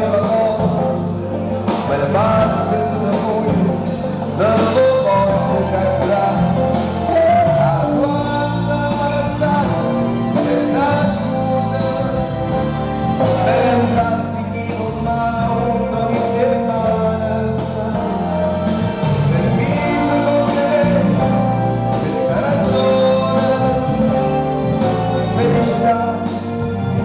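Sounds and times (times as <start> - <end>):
live band playing: 0.0 - 27.0
man singing: 0.0 - 27.0.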